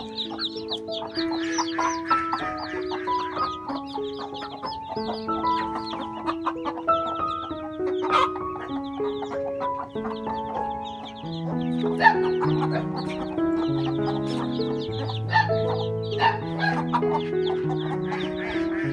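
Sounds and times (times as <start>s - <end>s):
chicks peeping: 0.0s - 18.9s
slow background music: 0.0s - 18.9s.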